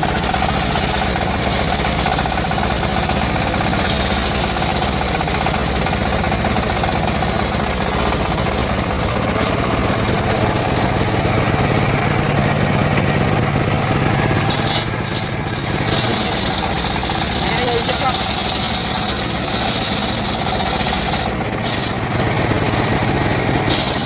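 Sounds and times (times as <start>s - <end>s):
sawmill engine knocking: 0.0s - 24.0s.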